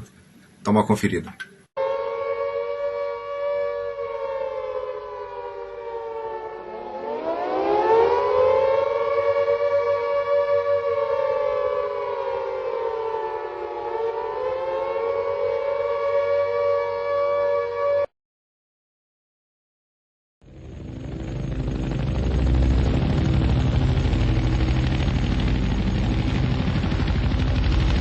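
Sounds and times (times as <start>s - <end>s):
air-raid siren wailing: 1.8s - 18.1s, 20.5s - 28.0s.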